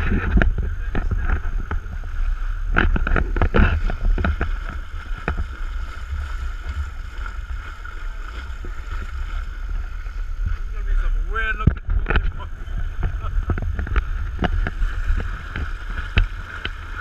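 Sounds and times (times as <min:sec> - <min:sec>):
water rushing along a hull: 0:00.0 - 0:17.0
wind rumble on microphone: 0:00.0 - 0:17.0.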